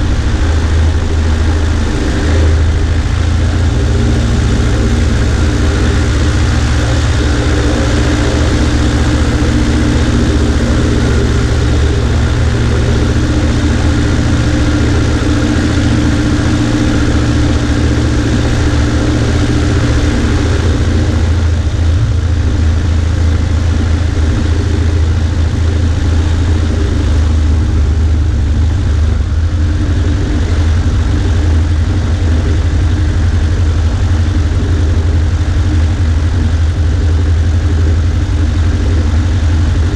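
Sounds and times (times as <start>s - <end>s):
airplane engine droning: 0.0s - 39.9s
rushing air: 0.0s - 39.9s.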